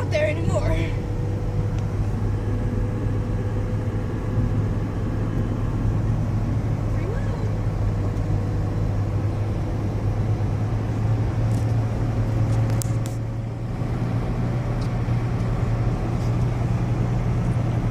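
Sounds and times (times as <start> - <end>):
car engine and road drone: 0.0 - 17.9.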